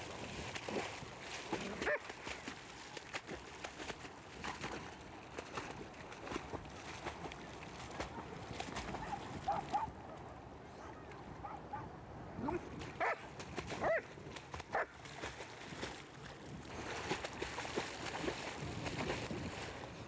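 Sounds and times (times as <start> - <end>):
dog splashing in water: 0.0 - 9.9, 12.7 - 20.0.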